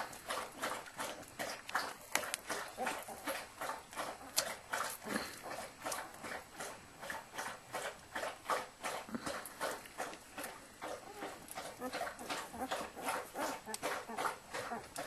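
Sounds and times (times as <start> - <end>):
dog licking puppies: 0.0 - 15.0.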